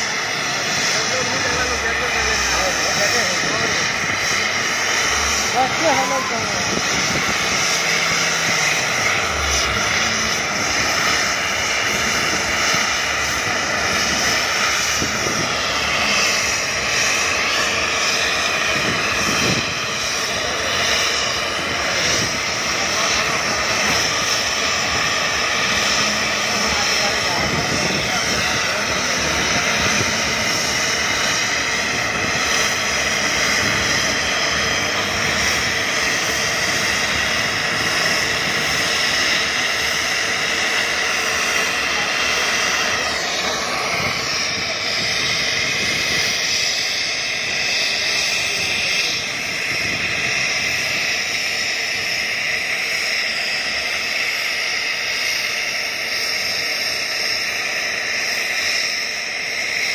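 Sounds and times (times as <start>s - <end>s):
helicopter turbine and rotor: 0.0s - 59.9s.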